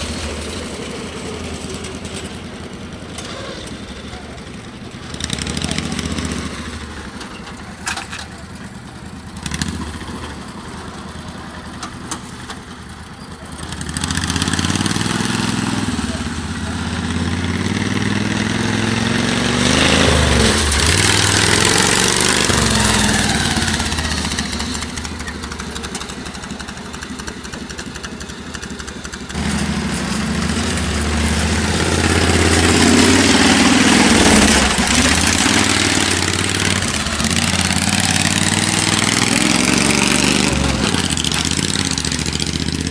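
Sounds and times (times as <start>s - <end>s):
vehicle engine passing by: 0.0s - 7.2s, 13.0s - 42.9s
loud engine: 0.0s - 42.9s.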